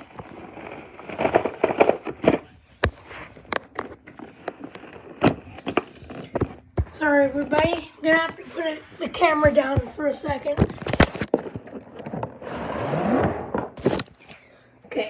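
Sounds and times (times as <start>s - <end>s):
cardboard rustling and scraping: 0.0s - 14.2s.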